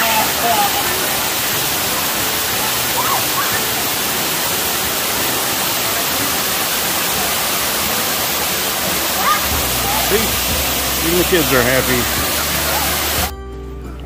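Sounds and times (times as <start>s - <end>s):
waterfall rushing: 0.0s - 13.3s.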